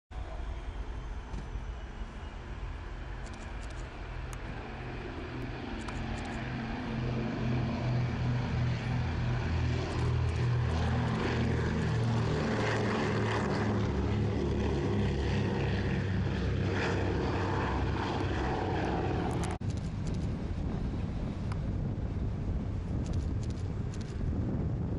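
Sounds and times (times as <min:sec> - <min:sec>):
propeller aircraft engines droning: 0:00.1 - 0:24.9.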